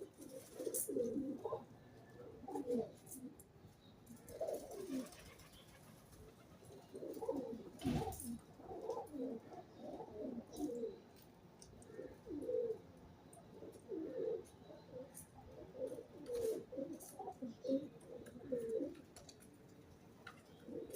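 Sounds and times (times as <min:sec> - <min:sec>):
pigeons cooing: 0:00.0 - 0:03.5, 0:04.1 - 0:11.1, 0:11.8 - 0:19.1, 0:20.5 - 0:20.9.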